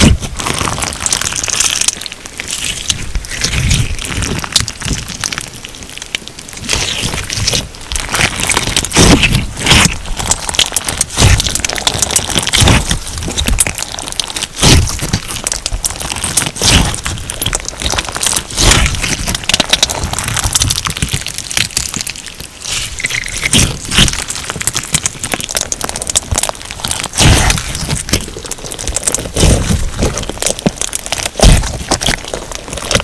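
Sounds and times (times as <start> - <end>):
crunchy slime crackling: 0.0 - 33.0
slime crunching squeeze: 0.0 - 33.0.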